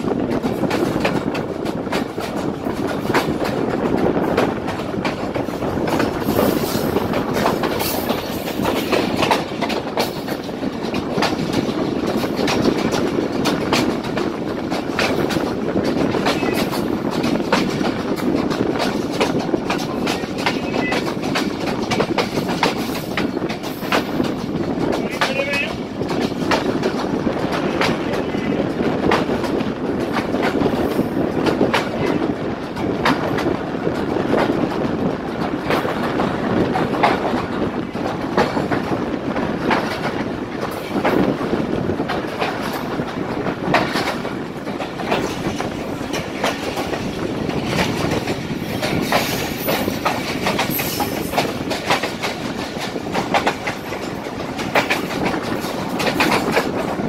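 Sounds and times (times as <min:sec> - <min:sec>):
train coaches rumbling: 0:00.0 - 0:57.0
wheels clacking on rail joints: 0:00.0 - 0:57.0.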